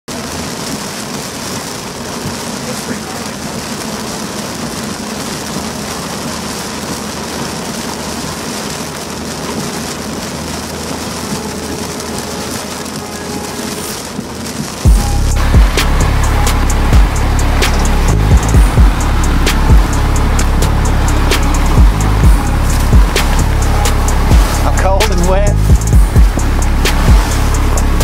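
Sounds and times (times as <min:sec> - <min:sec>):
rain on a car roof: 0:00.0 - 0:28.0
road and engine noise: 0:00.1 - 0:28.0.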